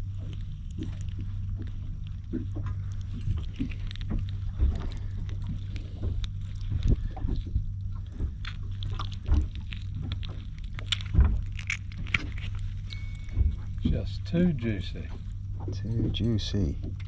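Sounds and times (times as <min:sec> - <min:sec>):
low boat hum: 0:00.0 - 0:17.0.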